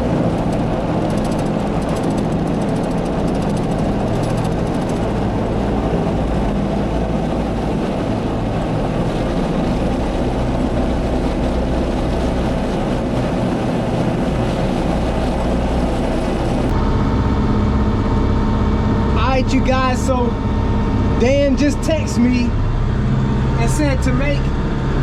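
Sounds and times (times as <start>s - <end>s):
farm vehicle engine rumbling: 0.0s - 25.0s.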